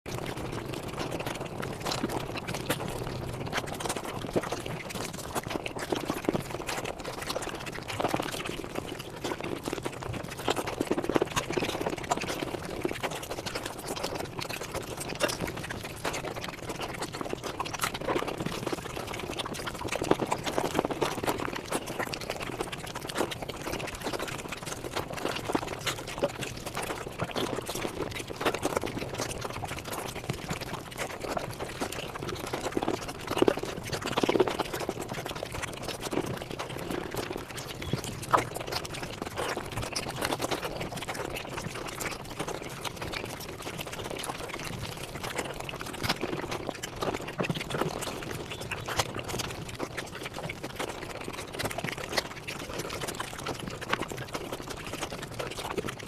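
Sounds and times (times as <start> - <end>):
sped-up chewing and smacking: 0.1 - 56.0.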